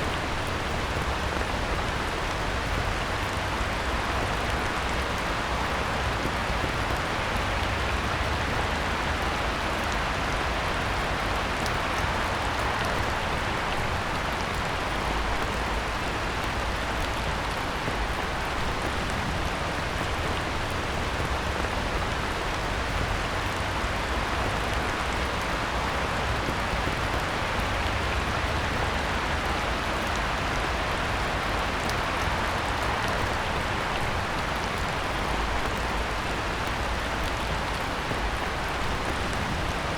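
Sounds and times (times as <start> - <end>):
heavy rain on pond: 0.0 - 39.9.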